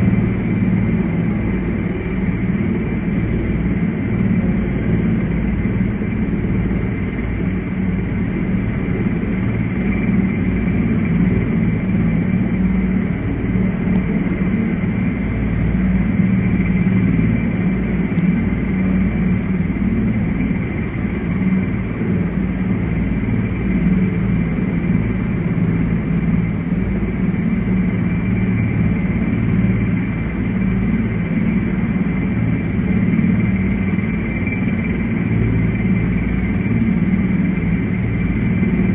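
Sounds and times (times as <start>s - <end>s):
helicopter cabin drone: 0.0s - 38.9s.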